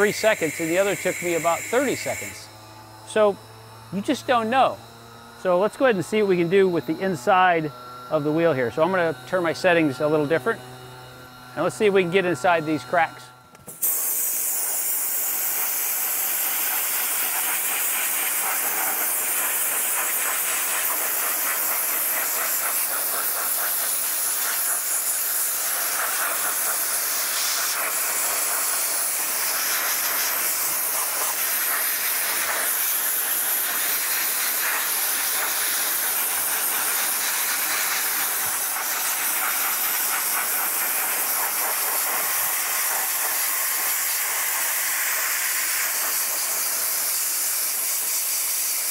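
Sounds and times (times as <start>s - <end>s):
dry ice blaster hissing: 0.0s - 48.9s.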